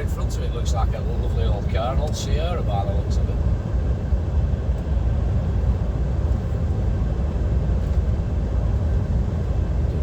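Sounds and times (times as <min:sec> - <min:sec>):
road and tyre noise: 0:00.0 - 0:10.0
truck diesel engine drone: 0:00.0 - 0:10.0.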